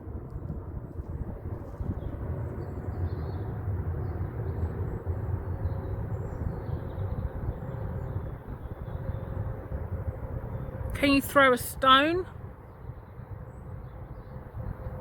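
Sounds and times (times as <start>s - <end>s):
aeroplane flying overhead: 0.0s - 15.0s.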